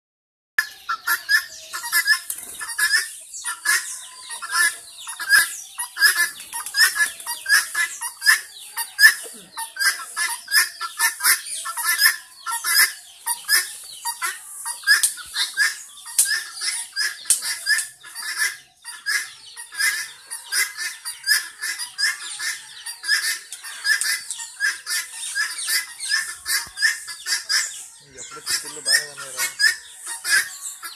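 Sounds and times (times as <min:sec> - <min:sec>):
birds chirping and squawking: 0:00.6 - 0:30.9.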